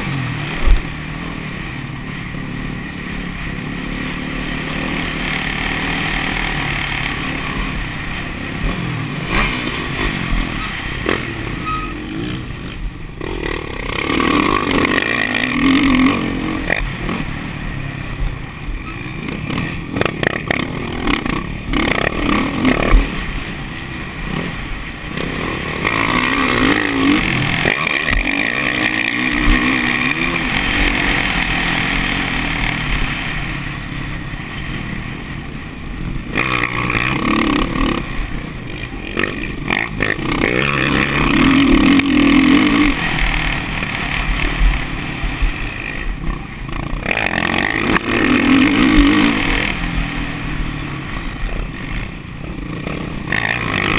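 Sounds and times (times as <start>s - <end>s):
motocross engines revving: 0.0s - 53.9s.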